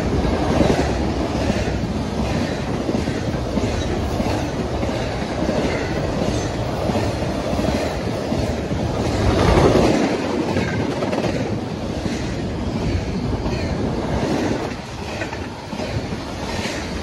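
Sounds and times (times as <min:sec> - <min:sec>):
freight train rolling past: 0:00.0 - 0:17.0
steel wheels clattering on rails: 0:00.0 - 0:17.0.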